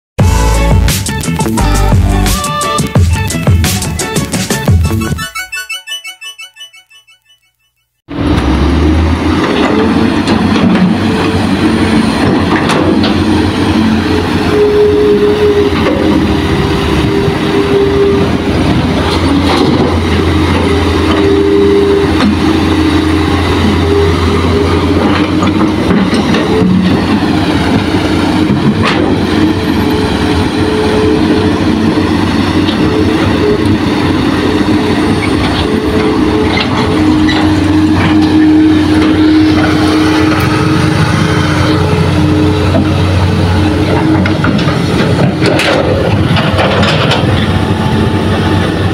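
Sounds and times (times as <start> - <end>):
diesel engines running: 8.1 - 48.9.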